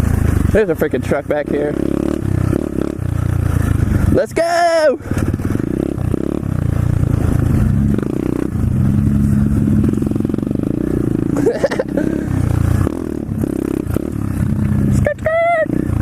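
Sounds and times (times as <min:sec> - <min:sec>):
motorbike engine under throttle: 0:00.0 - 0:16.0.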